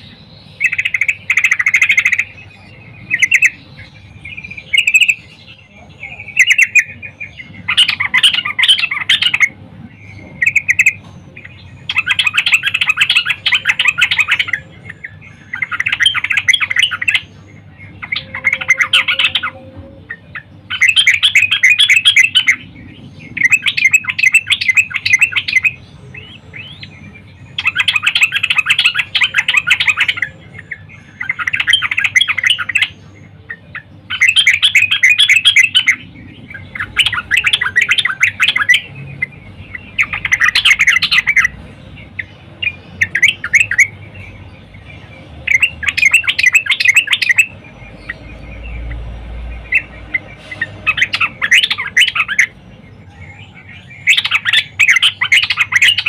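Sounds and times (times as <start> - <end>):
bird chattering calls: 0.0 - 56.0.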